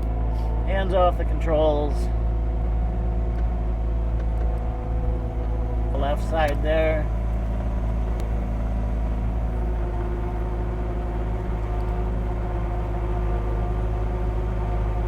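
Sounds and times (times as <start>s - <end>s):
diesel engine running: 0.0s - 15.0s
steady whine: 0.0s - 15.0s.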